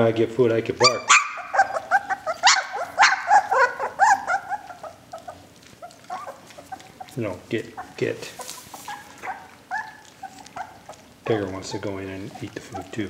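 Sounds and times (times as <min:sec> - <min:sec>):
puppies yipping and whining: 0:00.8 - 0:13.0.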